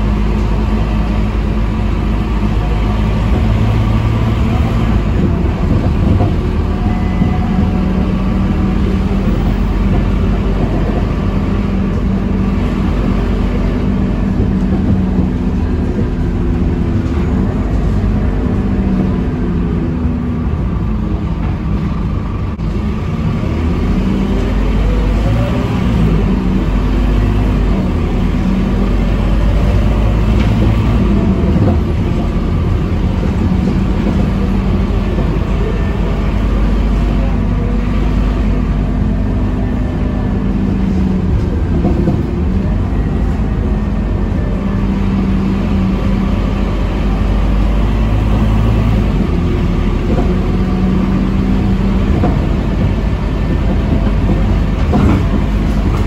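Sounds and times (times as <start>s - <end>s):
bus diesel engine rumbling: 0.0s - 56.0s
road and drivetrain noise: 0.0s - 56.0s.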